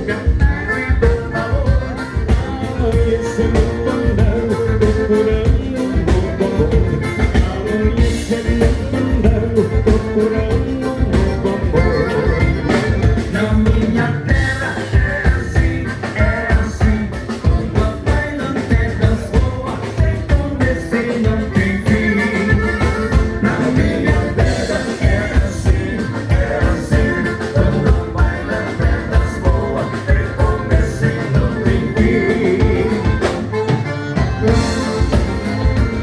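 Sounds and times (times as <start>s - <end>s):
accordion melody: 0.0s - 36.0s
steady drum beat: 0.0s - 36.0s.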